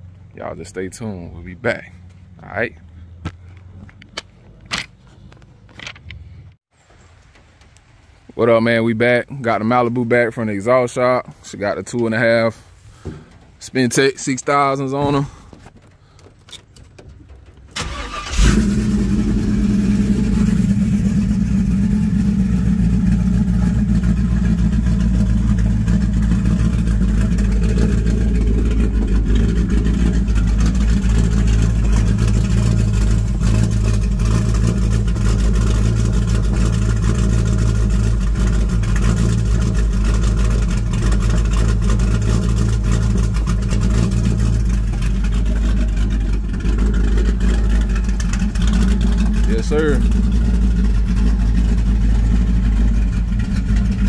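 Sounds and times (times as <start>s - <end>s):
car engine starting and idling: 9.4s - 54.0s.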